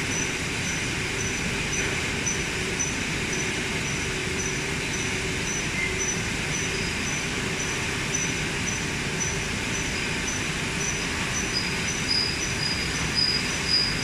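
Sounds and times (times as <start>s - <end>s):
factory machinery running: 0.0s - 14.0s.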